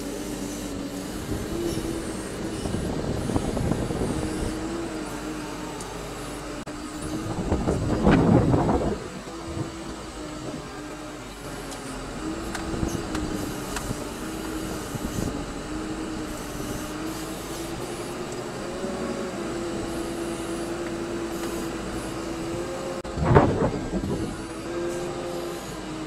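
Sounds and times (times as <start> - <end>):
loader engine running: 0.0 - 26.0.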